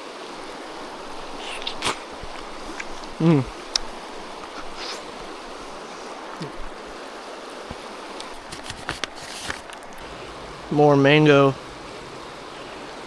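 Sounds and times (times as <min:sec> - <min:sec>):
mountain creek rushing: 0:00.0 - 0:13.0.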